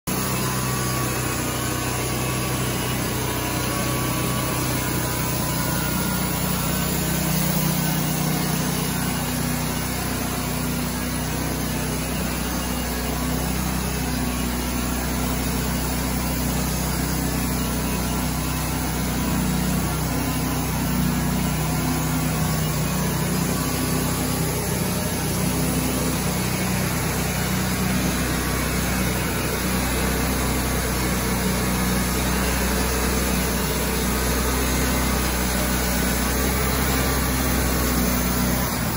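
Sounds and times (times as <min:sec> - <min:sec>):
sawmill engine running: 0:00.1 - 0:38.9.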